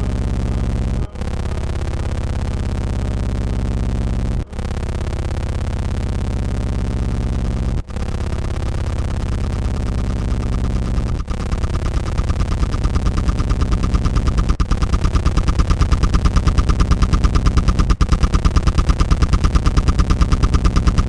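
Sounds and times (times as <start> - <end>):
electronic noise drone: 0.0 - 21.0
fast pulsing flutter: 0.0 - 21.0.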